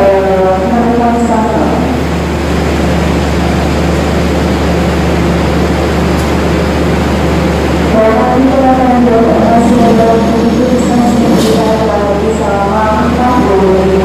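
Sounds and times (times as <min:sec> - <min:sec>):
diesel train engine running: 0:00.0 - 0:14.0.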